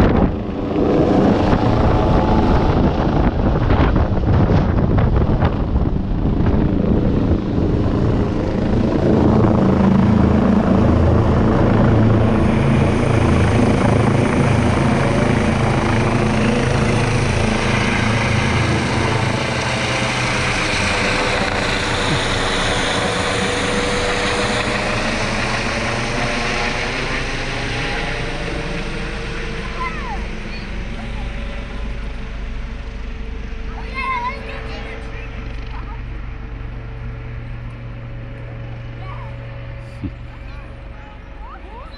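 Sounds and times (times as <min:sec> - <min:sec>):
helicopter flying overhead: 0:00.0 - 0:41.9.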